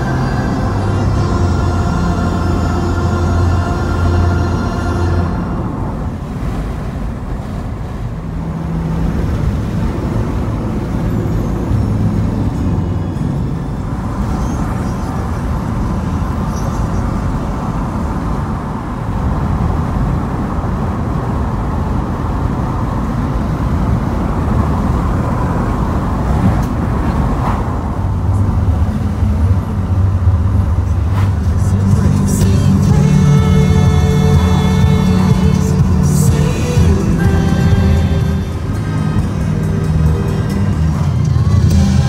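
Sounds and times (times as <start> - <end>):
car engine and tyre road noise: 0.0 - 42.0
steady low hum: 0.0 - 42.0.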